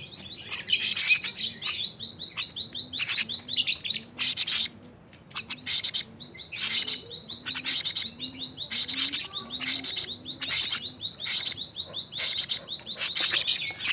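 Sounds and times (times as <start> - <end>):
bird chirping: 0.0 - 13.9.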